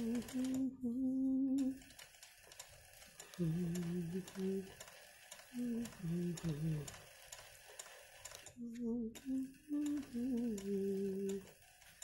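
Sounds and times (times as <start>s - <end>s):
sewing machine stitching: 0.0s - 0.7s, 1.6s - 12.0s.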